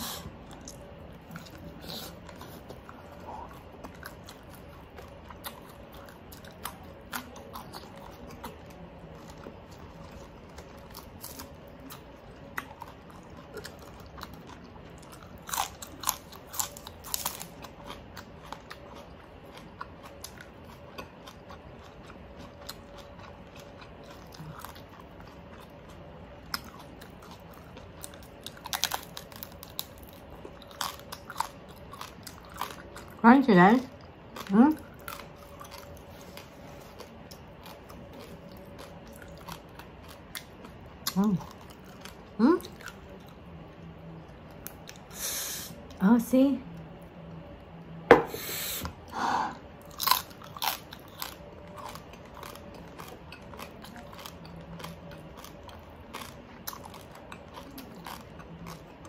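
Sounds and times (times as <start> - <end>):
crunchy chewing: 0.0 - 33.2, 33.8 - 45.2, 49.8 - 59.0.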